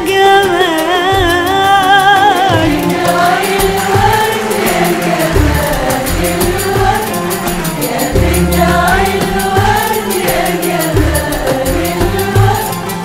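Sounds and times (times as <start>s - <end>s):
qanun oud and violins: 0.0s - 13.0s
frame drums and jingles: 2.3s - 13.0s
women's choir singing: 2.4s - 13.0s.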